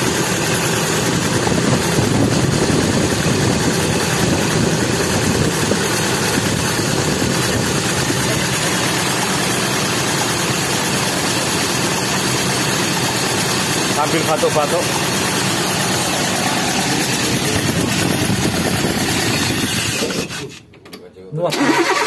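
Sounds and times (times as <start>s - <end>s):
engine ticking: 0.0s - 20.5s
car engine idling roughly: 0.0s - 20.6s.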